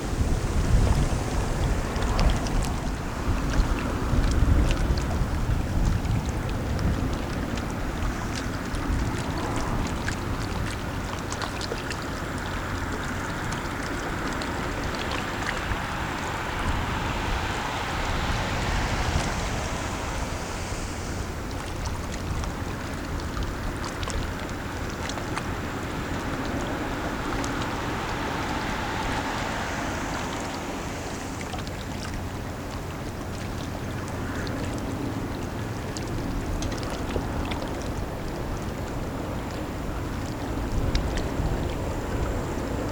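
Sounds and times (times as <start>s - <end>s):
ship engine low rumble: 0.0s - 42.9s
water wash: 0.0s - 42.9s
wind on microphone: 0.0s - 42.9s.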